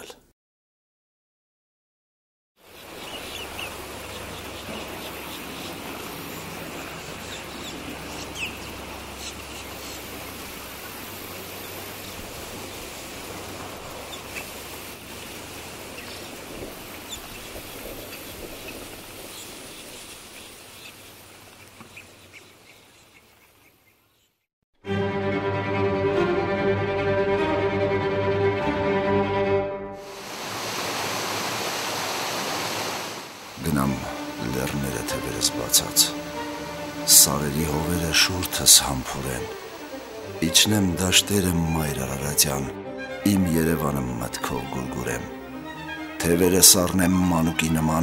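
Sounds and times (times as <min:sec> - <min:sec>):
steady background hiss: 0:02.7 - 0:24.2, 0:30.0 - 0:48.0.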